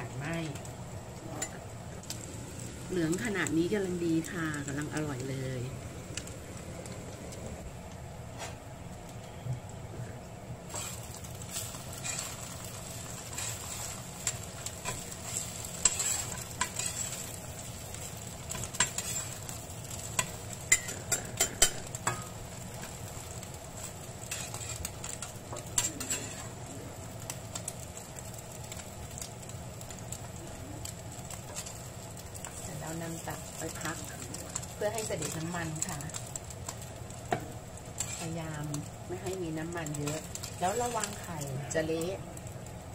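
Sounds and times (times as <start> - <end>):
egg sizzling in hot oil: 0.0 - 9.2, 10.6 - 42.9.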